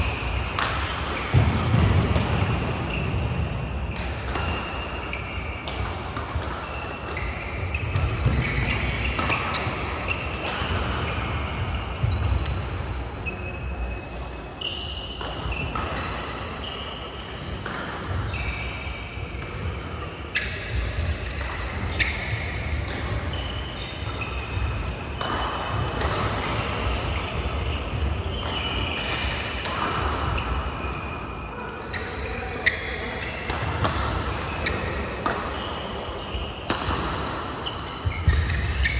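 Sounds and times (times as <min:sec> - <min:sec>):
rackets striking shuttlecocks: 0:00.0 - 0:13.0, 0:15.1 - 0:16.6, 0:19.2 - 0:30.6, 0:32.1 - 0:38.9
shoes squeaking on court: 0:00.0 - 0:17.5, 0:18.3 - 0:38.9.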